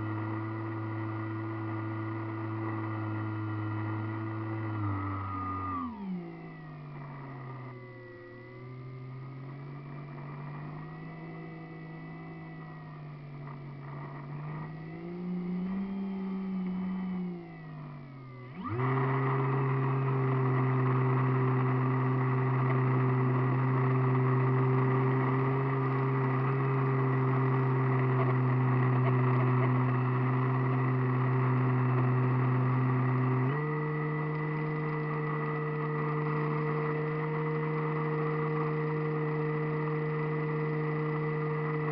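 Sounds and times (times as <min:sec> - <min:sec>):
model airplane motor and propeller: 0:00.0 - 0:41.9.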